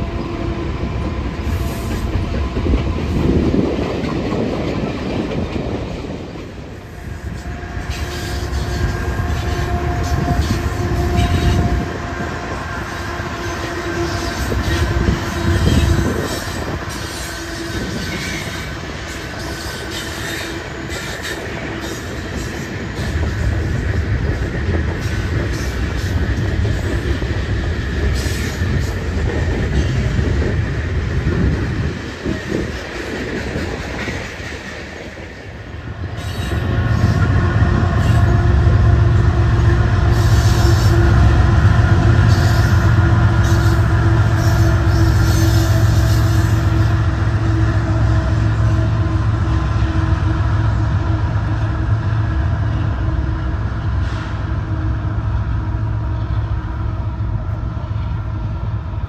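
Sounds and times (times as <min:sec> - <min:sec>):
diesel locomotive engine hum: 0:00.0 - 0:59.0
train wheels on rails: 0:00.0 - 0:59.0.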